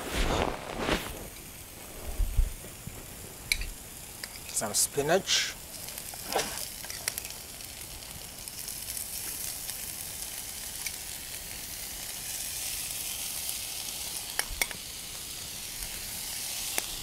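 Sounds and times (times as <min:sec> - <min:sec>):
vegetables sizzling in a wok: 0:00.0 - 0:17.0.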